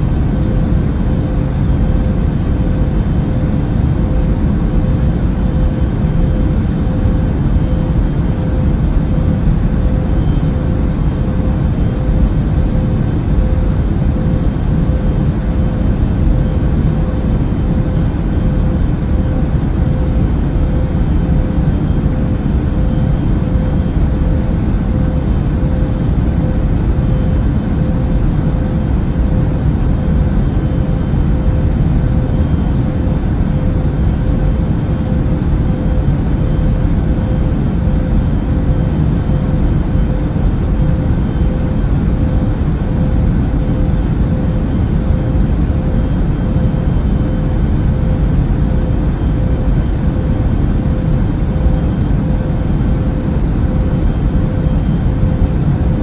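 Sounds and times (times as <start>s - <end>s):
airplane cabin rumble: 0.0s - 56.0s
constant hum: 0.0s - 56.0s.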